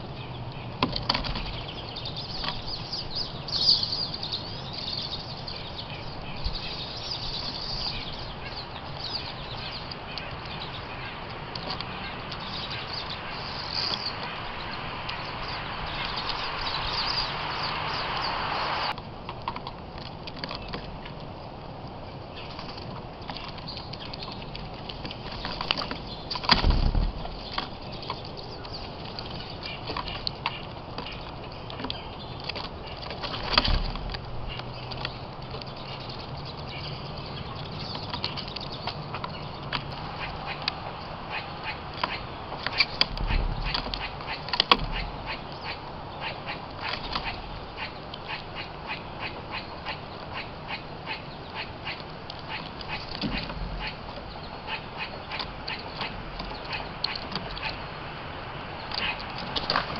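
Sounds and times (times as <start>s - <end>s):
birds pecking taps: 6.4s - 18.3s, 22.4s - 59.9s.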